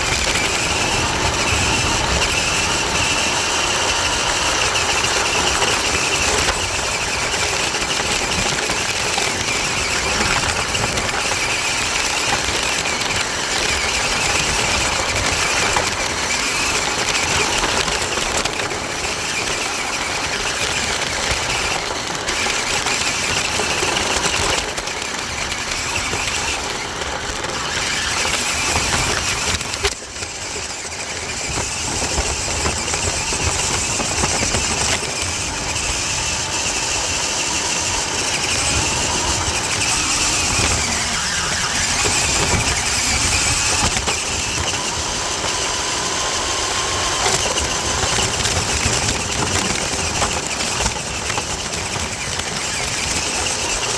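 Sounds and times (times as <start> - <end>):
toy truck motor whining: 0.0 - 53.9
wheels rumbling on ground: 0.0 - 53.9.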